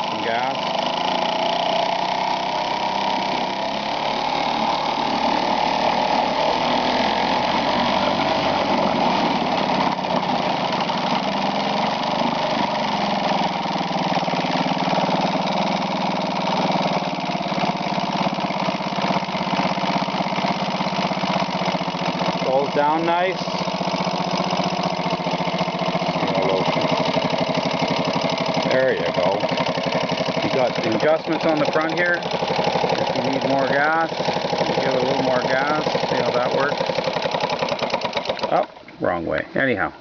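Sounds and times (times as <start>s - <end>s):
two-stroke outboard motor running: 0.0s - 38.8s.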